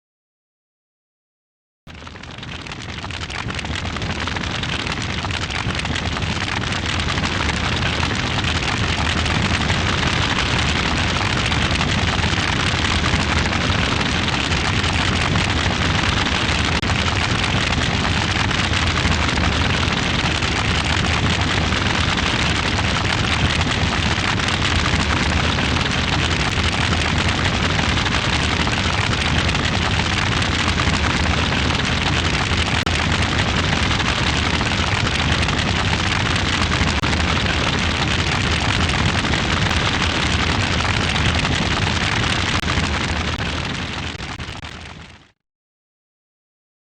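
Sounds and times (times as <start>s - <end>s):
fire crackling: 2.0s - 45.0s.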